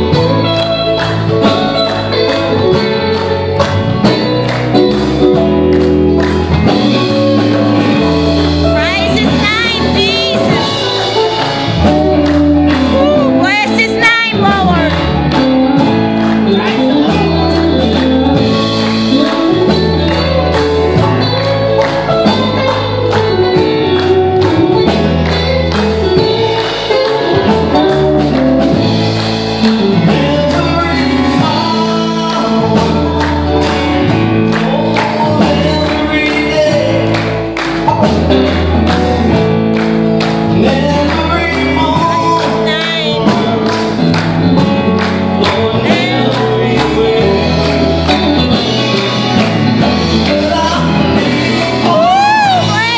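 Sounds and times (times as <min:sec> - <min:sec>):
acoustic guitar: 0:00.0 - 0:52.9
electric bass: 0:00.0 - 0:52.9
piano: 0:00.0 - 0:52.9
man singing: 0:06.6 - 0:52.9.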